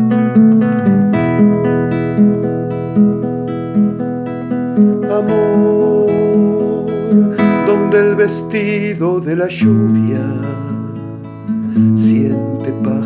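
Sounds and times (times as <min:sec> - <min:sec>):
classical guitar plucked chords: 0:00.0 - 0:13.0.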